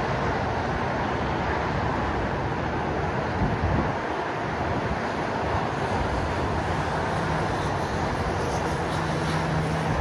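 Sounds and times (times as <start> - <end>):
distant city traffic: 0.0 - 10.0
faint engine hum: 0.0 - 10.0.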